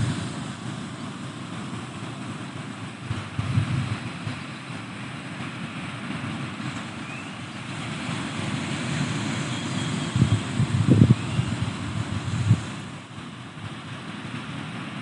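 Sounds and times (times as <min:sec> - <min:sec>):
surf washing against shore: 0:00.0 - 0:15.0
wind buffeting microphone: 0:00.0 - 0:15.0.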